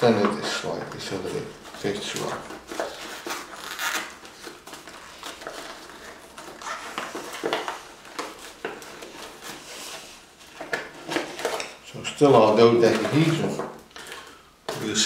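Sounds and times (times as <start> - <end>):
card rustling and scraping: 0.1 - 11.8, 12.4 - 15.0.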